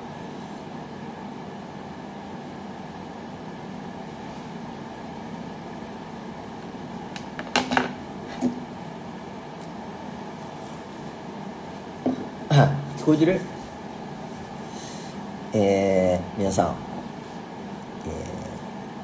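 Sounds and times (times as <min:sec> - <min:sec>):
room noise hum: 0:00.0 - 0:19.0.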